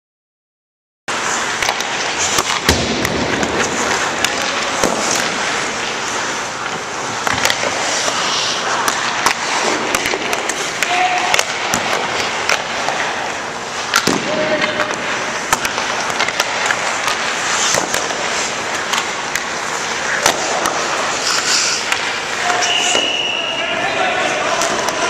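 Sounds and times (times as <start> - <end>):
skates scraping on ice: 1.1 - 25.0
sharp clacks of pucks and sticks: 1.3 - 23.3, 24.5 - 25.0.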